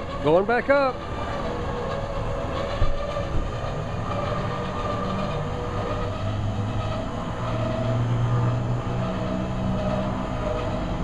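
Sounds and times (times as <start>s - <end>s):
lift motor running: 0.0s - 11.0s.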